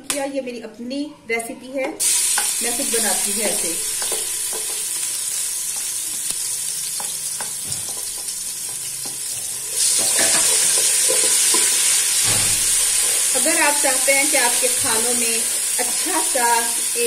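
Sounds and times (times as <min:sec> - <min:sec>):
paste sizzling in hot oil: 0:02.0 - 0:17.0.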